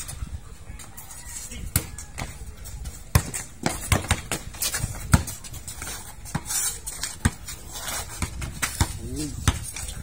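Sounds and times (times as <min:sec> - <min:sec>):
shoes scuffing on court: 0:00.8 - 0:10.0
basketball bouncing on concrete: 0:01.6 - 0:10.0.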